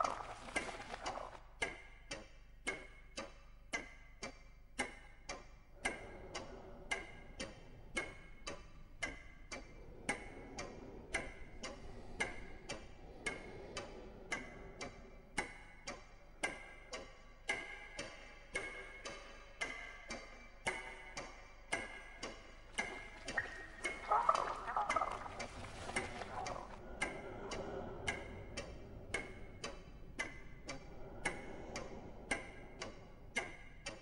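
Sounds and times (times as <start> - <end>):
wall clock ticking: 0.0 - 34.0.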